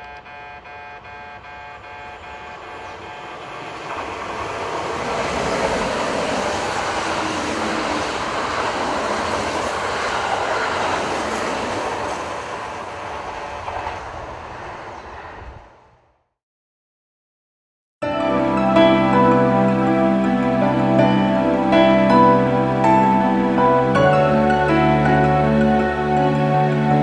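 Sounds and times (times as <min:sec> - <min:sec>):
train rushing past: 0:01.7 - 0:16.2, 0:18.2 - 0:27.0.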